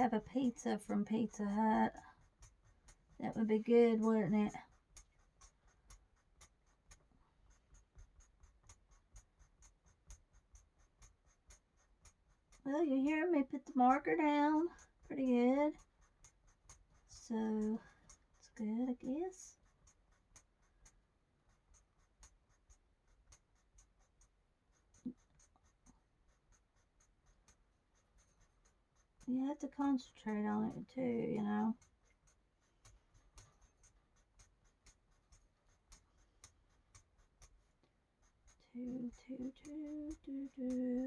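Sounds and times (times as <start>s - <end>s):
marker scratching on paper: 0.0s - 41.0s.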